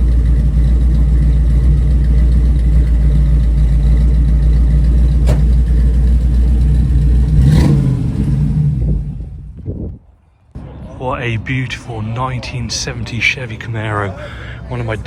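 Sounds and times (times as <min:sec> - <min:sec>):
car engine idling: 0:00.0 - 0:09.9, 0:10.6 - 0:15.0.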